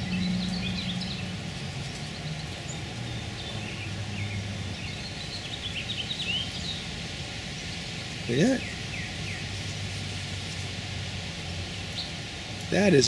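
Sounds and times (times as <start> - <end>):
bumblebee humming in flight: 0.0 - 13.0
small birds chirping: 0.0 - 13.0.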